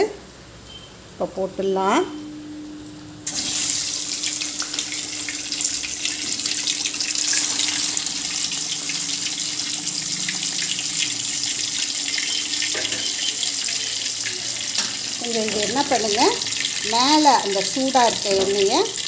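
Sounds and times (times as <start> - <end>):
deep-frying sizzle with popping: 3.2 - 19.0.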